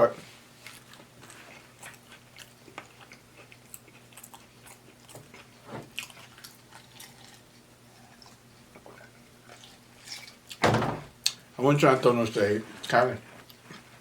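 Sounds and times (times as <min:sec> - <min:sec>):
chewing crunchy food: 0:00.5 - 0:10.6, 0:12.8 - 0:14.0.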